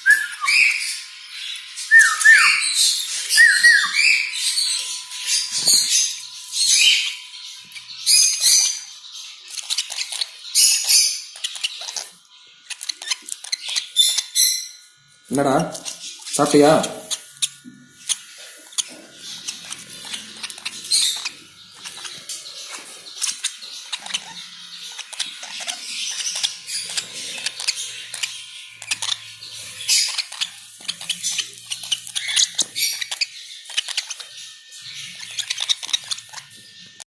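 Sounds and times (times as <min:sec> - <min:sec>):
parrot chicks chirping: 0:00.0 - 0:37.0.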